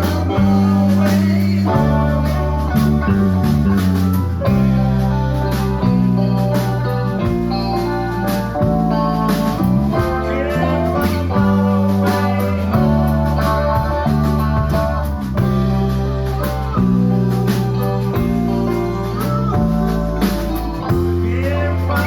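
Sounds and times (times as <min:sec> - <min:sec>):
bass: 0:00.0 - 0:22.0
drums: 0:00.0 - 0:22.0
electric guitar lines: 0:00.0 - 0:22.0
organ chords: 0:00.0 - 0:22.0.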